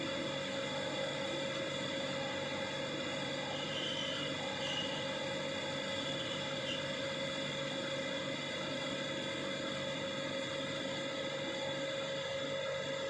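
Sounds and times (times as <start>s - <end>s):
model locomotive motor whine: 0.0s - 13.0s.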